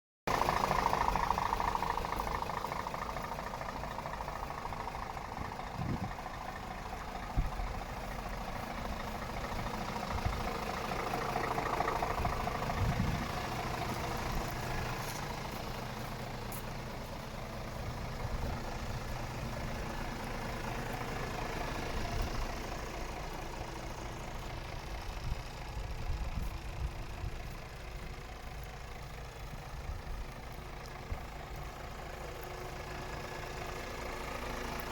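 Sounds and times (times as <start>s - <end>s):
diesel truck engine idling: 0.3s - 34.9s.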